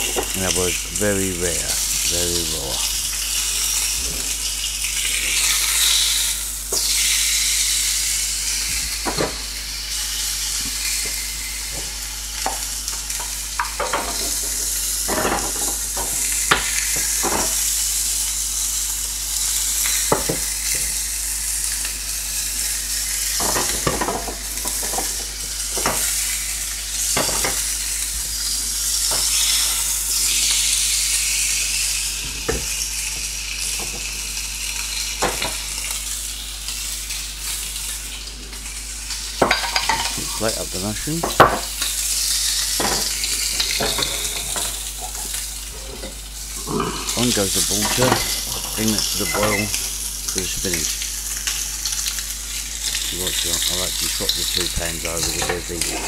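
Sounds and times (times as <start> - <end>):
steak sizzling in a pan: 0.0 - 56.0.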